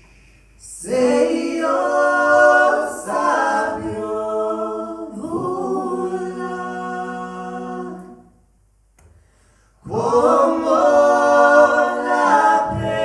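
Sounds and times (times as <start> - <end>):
choir singing in harmony: 0.6 - 8.4, 9.8 - 13.0.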